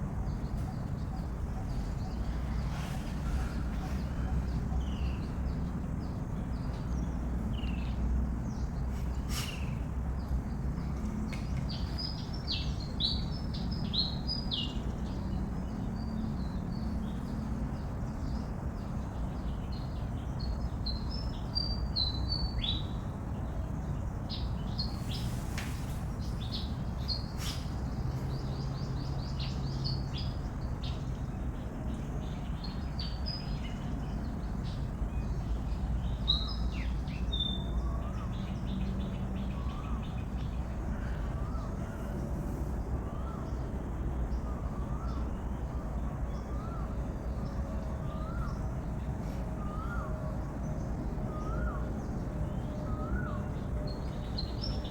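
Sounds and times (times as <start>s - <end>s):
birds chirping: 0.2s - 54.9s.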